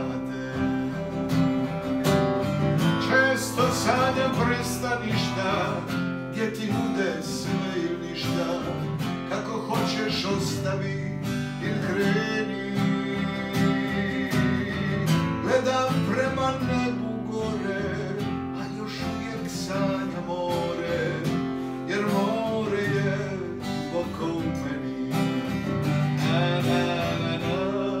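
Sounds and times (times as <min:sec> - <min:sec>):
song with strummed acoustic guitar: 0:00.0 - 0:28.0.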